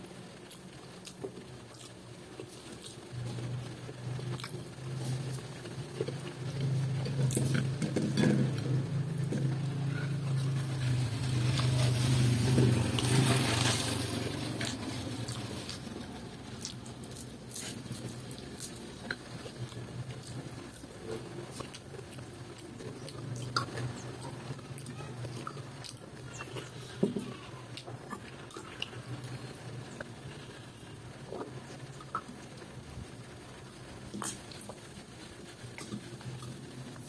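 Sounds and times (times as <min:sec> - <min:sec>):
chewing and lip smacking: 0:00.4 - 0:11.9, 0:14.5 - 0:32.7, 0:34.1 - 0:37.0.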